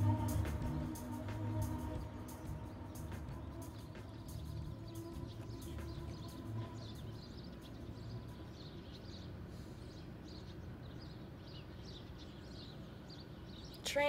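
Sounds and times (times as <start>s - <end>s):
low background rumble: 0.0s - 13.7s
small birds chirping: 0.0s - 14.0s.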